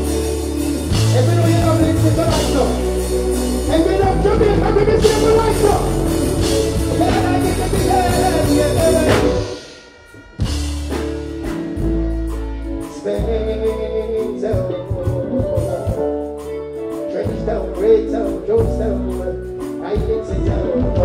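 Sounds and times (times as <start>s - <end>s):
person singing: 0.0s - 10.6s, 12.3s - 21.0s
loud backing music with deep bass: 0.0s - 21.0s.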